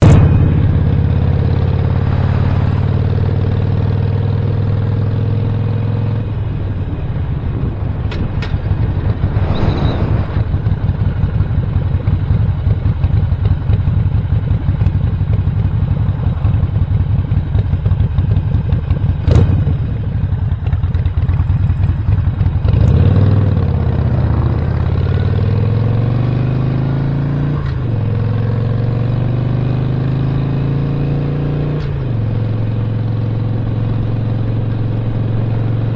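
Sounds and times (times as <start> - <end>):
motorcycle engine revving: 0.0 - 6.9, 8.1 - 35.9.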